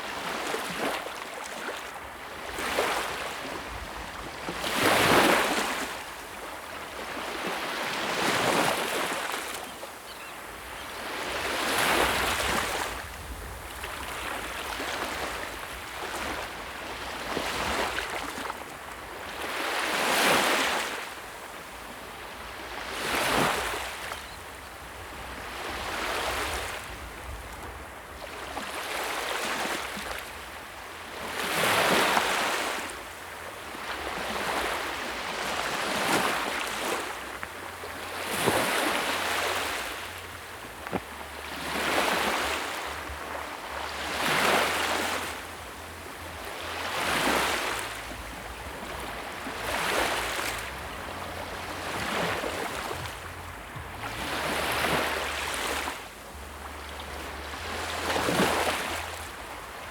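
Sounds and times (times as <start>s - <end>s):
sea waves breaking: 0.0s - 24.4s, 31.2s - 59.9s.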